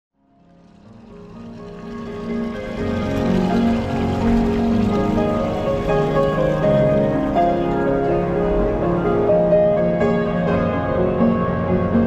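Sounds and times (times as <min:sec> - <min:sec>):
music of sustained layered tones: 0:00.2 - 0:12.0.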